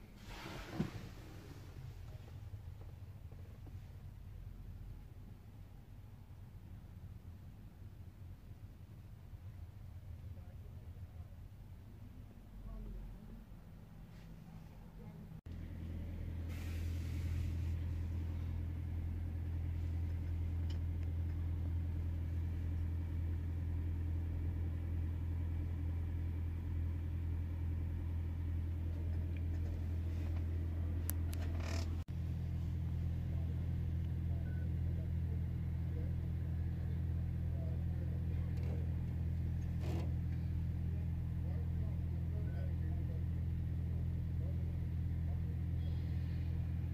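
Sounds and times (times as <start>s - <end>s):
idling engine drone: 0.0s - 46.9s.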